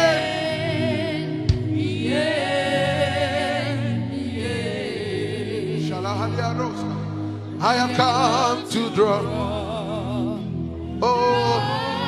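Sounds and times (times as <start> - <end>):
gospel voices singing: 0.0 - 12.0
sustained backing chords: 0.0 - 12.0.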